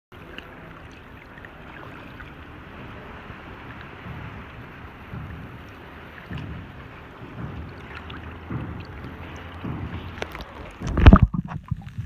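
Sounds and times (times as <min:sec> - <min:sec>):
small water splashes: 0:00.1 - 0:12.0
small waves lapping: 0:00.1 - 0:12.0.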